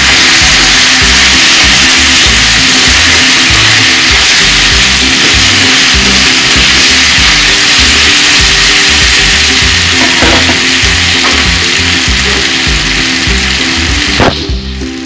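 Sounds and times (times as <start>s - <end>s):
background music with low beat: 0.0s - 15.0s
food sizzling in hot oil: 0.0s - 15.0s.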